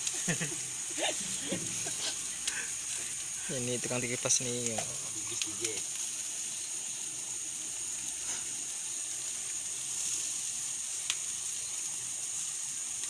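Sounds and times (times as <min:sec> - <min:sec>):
sharp crackle: 0:00.0 - 0:13.0
skewers sizzling over charcoal: 0:00.0 - 0:13.0.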